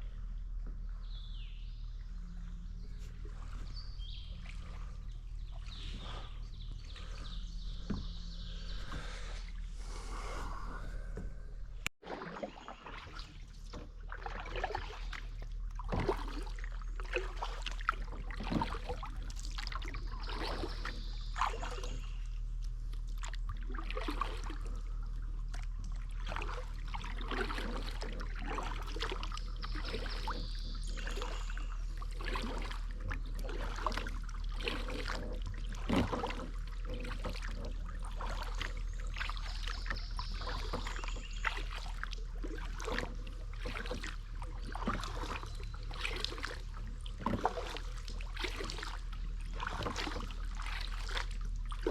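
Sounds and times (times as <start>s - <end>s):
paddle strokes in water: 0.0s - 51.9s
water trickling off paddle: 0.4s - 51.9s.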